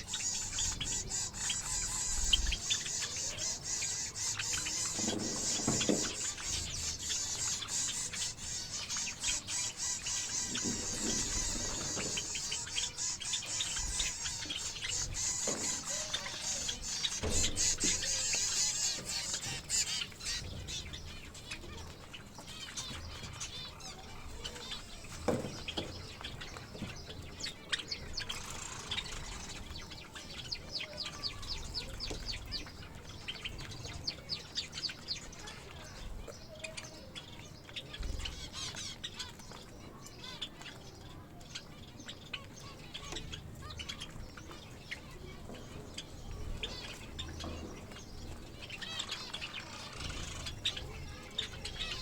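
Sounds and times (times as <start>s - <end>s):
finches chirping: 0.0s - 52.0s.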